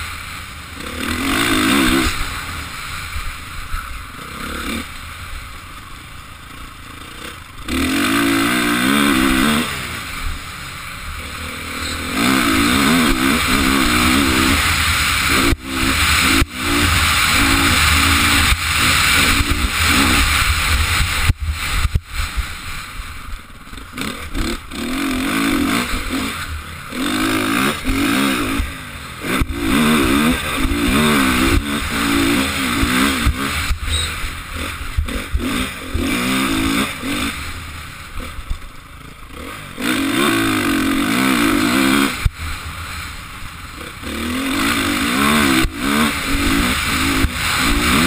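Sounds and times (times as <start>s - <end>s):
motocross bike engine revving: 0.0s - 48.0s
steady rushing noise: 0.0s - 48.0s.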